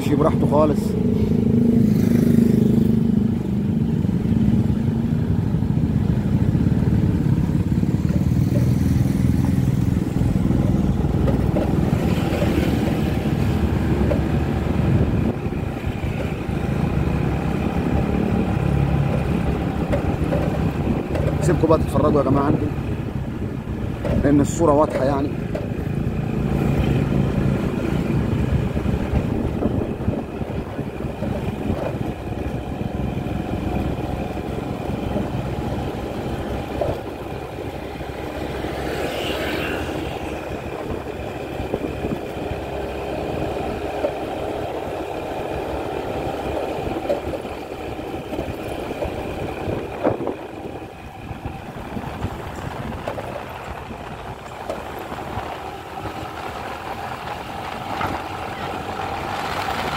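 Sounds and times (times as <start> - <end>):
cars passing: 0.0 - 59.9
motorbike engine at low speed: 0.0 - 59.9.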